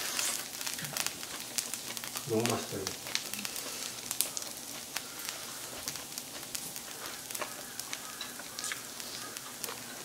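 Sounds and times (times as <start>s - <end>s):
fried rice sizzling on grill: 0.0s - 10.0s.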